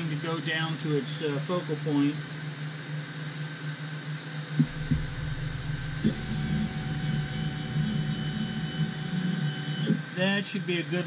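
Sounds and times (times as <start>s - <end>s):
fans humming: 0.0s - 11.0s
stepper motor hum with whine: 0.0s - 11.0s.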